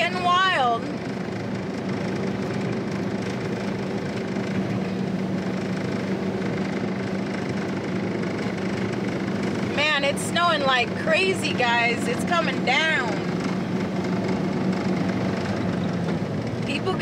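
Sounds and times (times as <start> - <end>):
constant low hum: 0.0 - 17.0
in-cab engine and tyre noise: 0.0 - 17.0.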